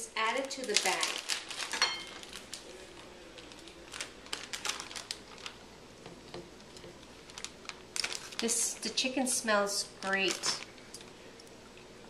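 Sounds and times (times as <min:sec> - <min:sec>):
plastic bag crinkling: 0:00.2 - 0:05.6, 0:06.6 - 0:11.2.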